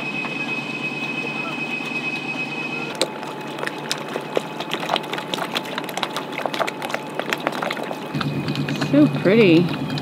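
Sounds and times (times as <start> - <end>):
water lapping against boat hull: 1.5 - 10.0.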